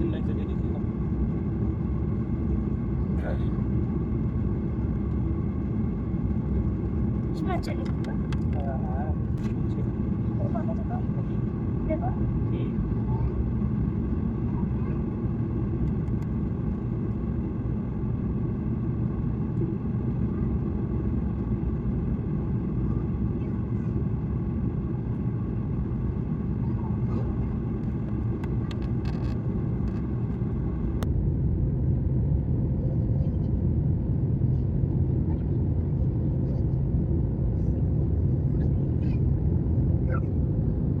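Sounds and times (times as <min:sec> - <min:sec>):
jet airliner rumble: 0:00.0 - 0:41.0.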